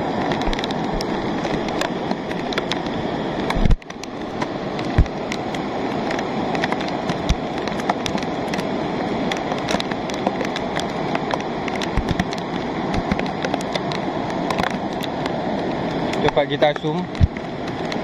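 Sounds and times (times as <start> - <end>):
heavy rain: 0.0 - 18.0
muddy flood rushing: 0.0 - 18.0.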